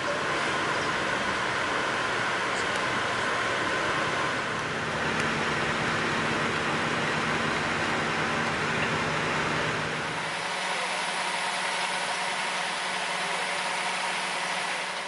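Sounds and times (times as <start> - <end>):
bus engine and road noise: 0.0 - 15.0
vehicle engine idling: 0.0 - 15.0.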